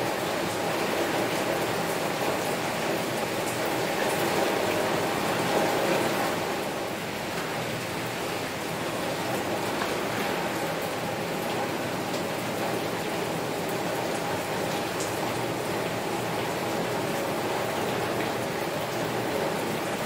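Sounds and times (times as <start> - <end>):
rain hissing on a window: 0.0 - 20.0.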